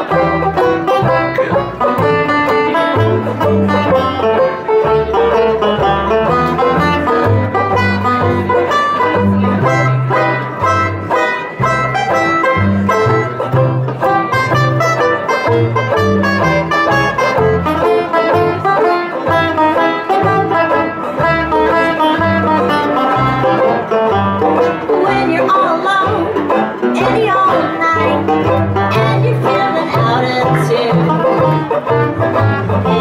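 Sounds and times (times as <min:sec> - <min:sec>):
banjos strumming and picking: 0:00.0 - 0:33.0
string bass notes: 0:00.0 - 0:33.0.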